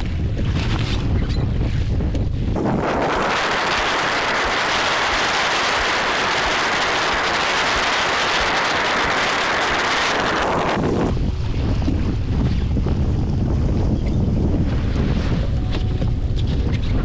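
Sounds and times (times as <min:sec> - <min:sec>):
wind rumble: 0:00.0 - 0:17.0.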